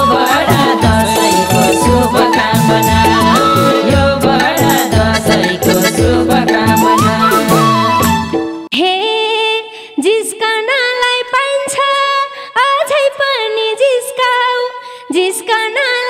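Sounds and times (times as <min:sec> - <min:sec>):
woman singing unaccompanied: 0:00.0 - 0:08.0, 0:08.7 - 0:16.0.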